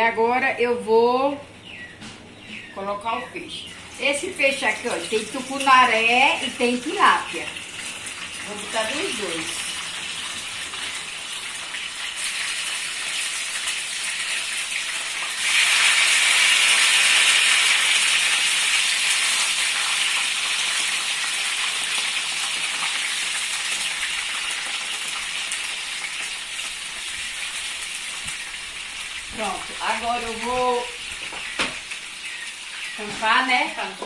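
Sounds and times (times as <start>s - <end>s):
fish frying in hot oil: 3.7s - 34.0s.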